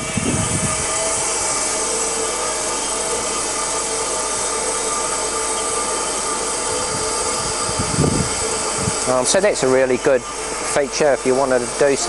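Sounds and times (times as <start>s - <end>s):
metal-cutting bandsaw running: 0.0s - 12.0s.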